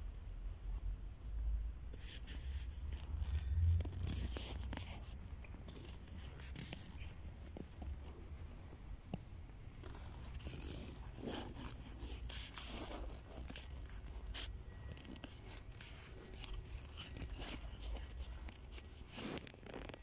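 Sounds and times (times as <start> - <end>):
rustles scrapes and clicks: 2.0 - 9.2, 9.8 - 20.0.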